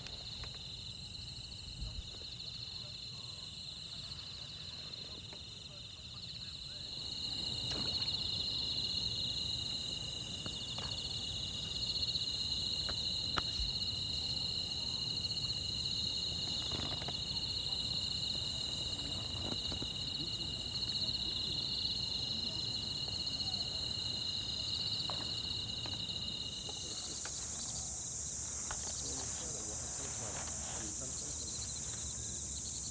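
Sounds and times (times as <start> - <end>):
crickets trilling: 0.0 - 32.9.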